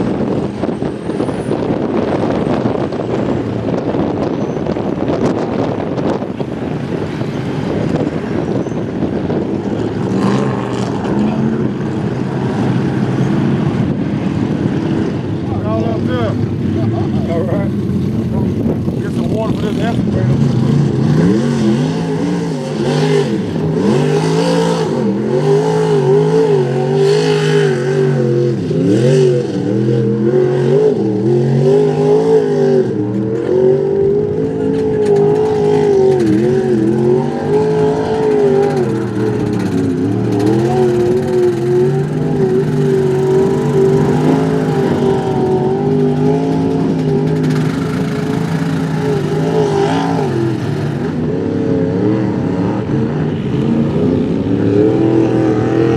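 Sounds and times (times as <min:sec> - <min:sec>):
truck engine revving hard: 0:00.0 - 0:55.9.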